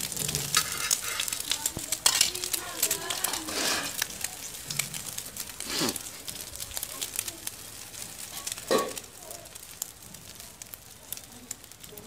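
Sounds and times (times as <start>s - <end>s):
egg frying sizzle: 0.0s - 12.0s.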